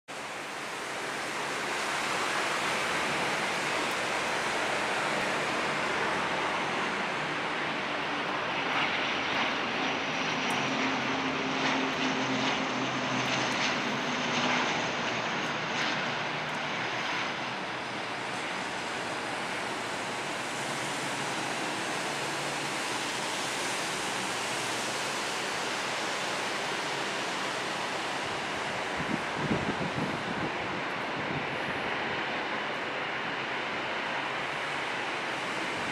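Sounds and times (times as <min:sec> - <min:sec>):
propeller aircraft droning: 0:00.1 - 0:35.9
aircraft rushing noise: 0:00.2 - 0:35.9.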